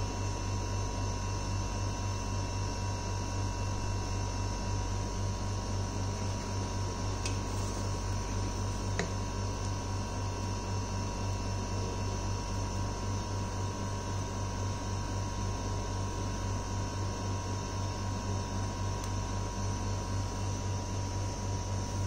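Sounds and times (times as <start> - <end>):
low electrical hum: 0.0 - 22.0
thin steady whine: 0.0 - 22.0.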